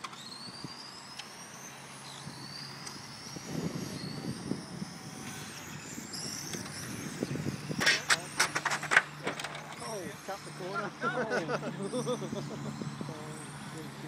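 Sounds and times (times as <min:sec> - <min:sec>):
model car motor whining: 0:00.0 - 0:14.0.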